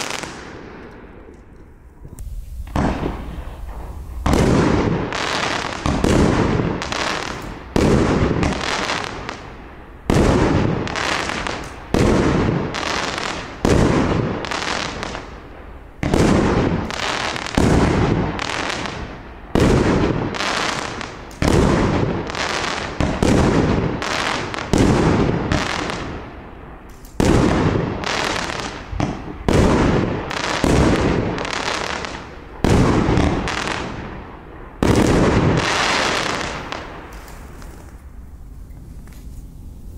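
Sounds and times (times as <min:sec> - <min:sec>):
firework bangs: 0:00.0 - 0:39.6.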